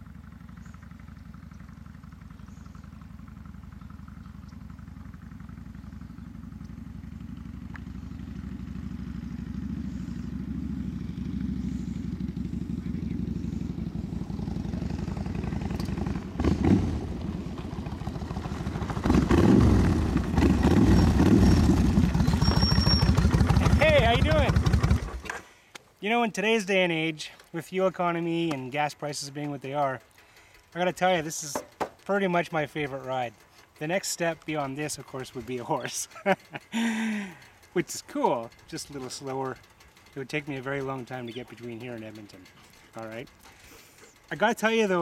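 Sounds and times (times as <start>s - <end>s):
motorcycle engine running: 0.0s - 25.4s, 27.4s - 45.0s.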